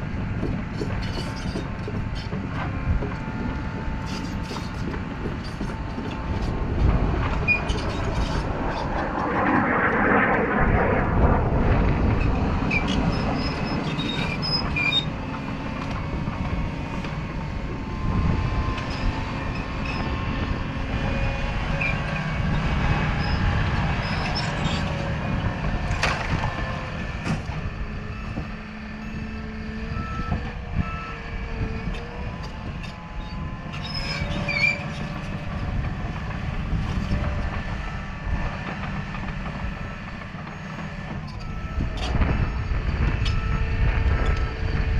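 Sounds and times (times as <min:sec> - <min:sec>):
bulldozer diesel engine under load: 0:00.0 - 0:08.7, 0:12.0 - 0:44.9.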